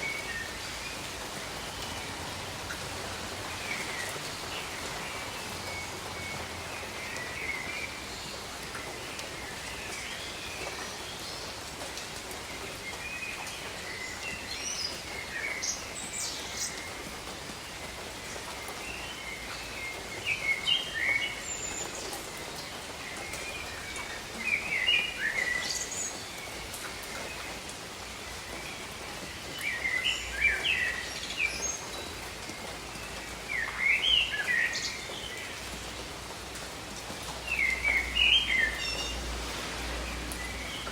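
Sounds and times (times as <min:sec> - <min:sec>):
rain on foliage: 0:00.0 - 0:40.9.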